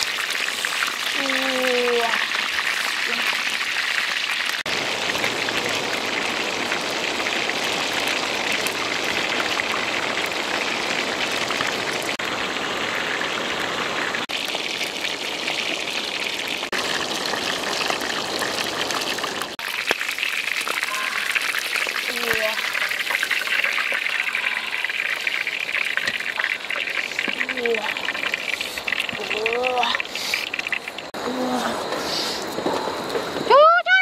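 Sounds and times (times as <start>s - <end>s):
chicken sizzling in hot oil: 0.0s - 31.2s.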